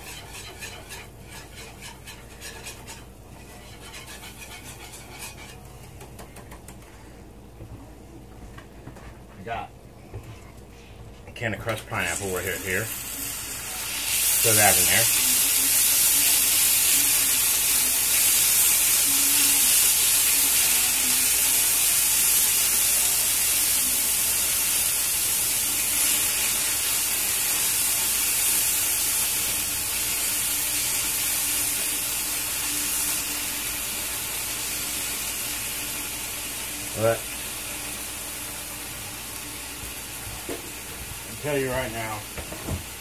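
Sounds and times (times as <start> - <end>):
fruit sizzling in a skillet: 0.0 - 5.5, 11.9 - 43.0.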